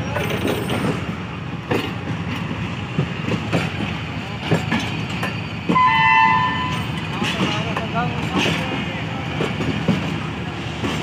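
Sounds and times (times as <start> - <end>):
train rumbling: 0.0 - 11.0
wheels clicking over rail joints: 0.1 - 5.9, 6.5 - 11.0.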